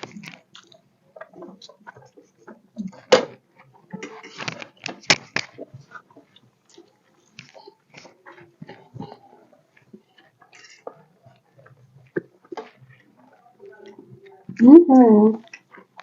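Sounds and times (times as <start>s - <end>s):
quiet chewing: 0.0s - 14.6s, 15.4s - 16.0s.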